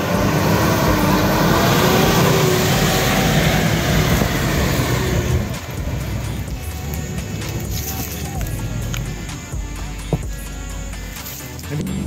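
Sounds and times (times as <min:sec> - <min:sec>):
vehicle engine revving under load: 0:00.0 - 0:12.0.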